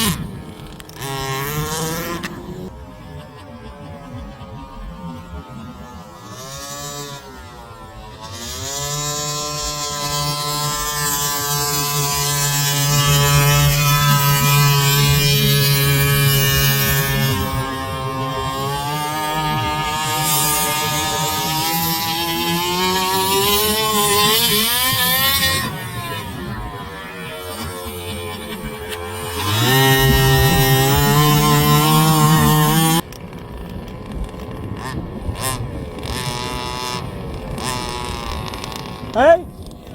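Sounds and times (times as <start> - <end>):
small two-stroke engines revving: 0.0 - 39.9.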